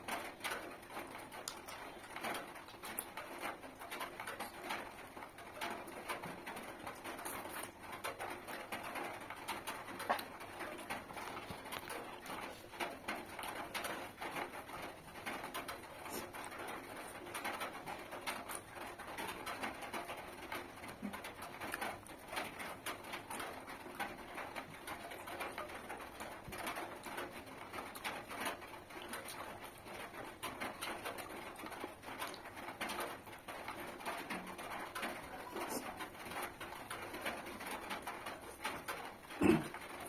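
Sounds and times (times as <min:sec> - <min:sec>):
person chewing and smacking: 0:00.2 - 0:40.0.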